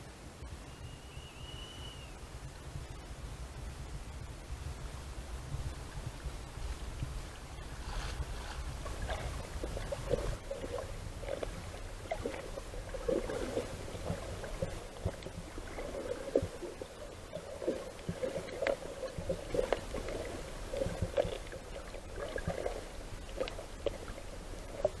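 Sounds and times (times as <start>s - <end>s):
underwater water gurgling: 4.6s - 25.0s.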